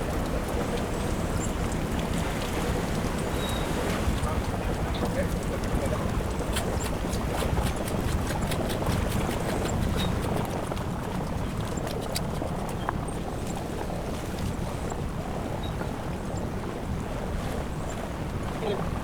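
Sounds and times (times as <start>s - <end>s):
boat engine rumble: 0.0s - 19.0s
wind at sea: 0.0s - 19.0s.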